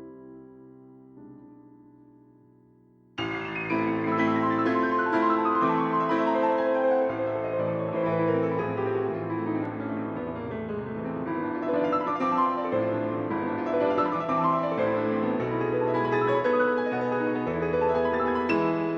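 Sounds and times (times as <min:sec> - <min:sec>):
piano music: 0:03.2 - 0:18.9.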